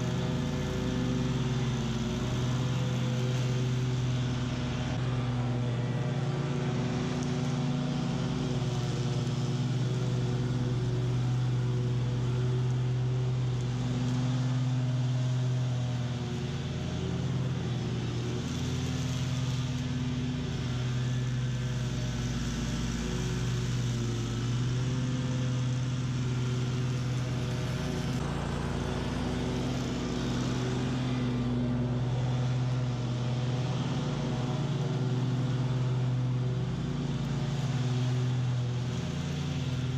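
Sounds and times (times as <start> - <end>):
mower blades cutting weeds: 0.0 - 39.9
mower engine running: 0.0 - 39.9.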